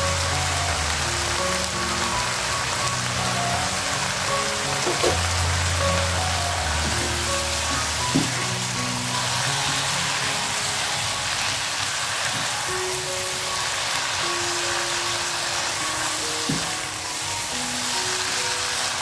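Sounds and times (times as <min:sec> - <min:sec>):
food sizzling in a wok: 0:00.0 - 0:19.0
light background music: 0:00.0 - 0:19.0.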